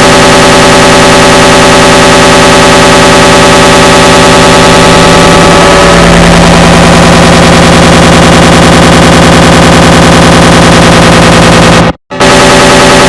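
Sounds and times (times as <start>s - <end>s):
distorted error sound noise: 0.0s - 13.0s
steady low drone: 0.0s - 13.0s.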